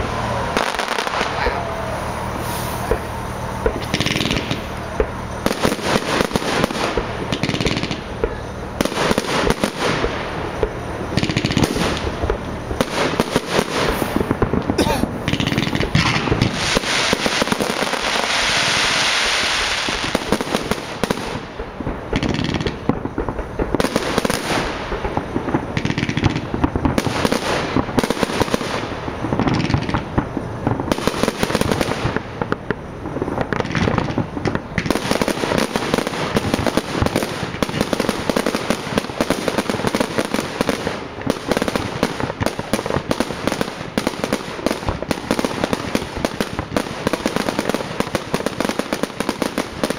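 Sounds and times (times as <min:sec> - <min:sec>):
broad hiss: 0:00.0 - 0:49.9
fireworks bangs and crackling: 0:00.0 - 0:49.9.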